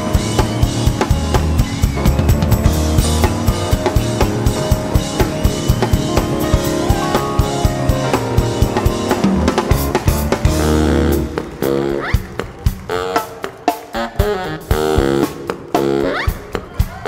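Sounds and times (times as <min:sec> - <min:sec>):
drum kit groove: 0:00.0 - 0:17.0
live band playing: 0:00.0 - 0:17.0.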